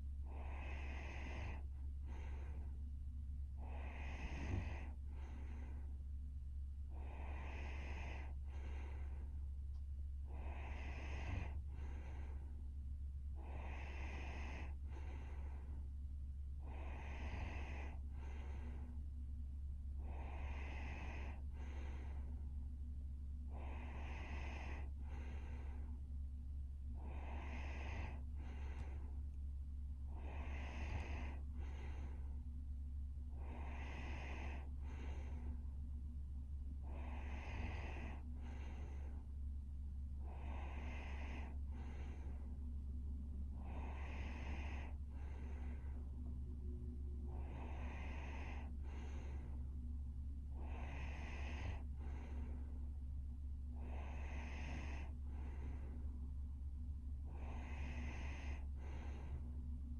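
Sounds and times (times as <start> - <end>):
steady low hum: 0.0 - 59.9
woman breathing heavily in sleep: 0.0 - 59.9.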